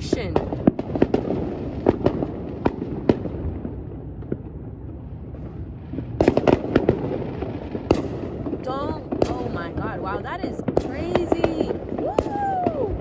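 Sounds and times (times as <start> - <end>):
distant explosions rumbling: 0.0 - 13.0
fireworks bangs and crackles: 0.0 - 13.0.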